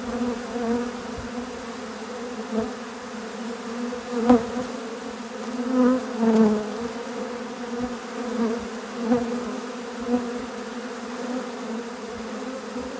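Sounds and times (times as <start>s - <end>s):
honeybees buzzing: 0.0s - 12.9s.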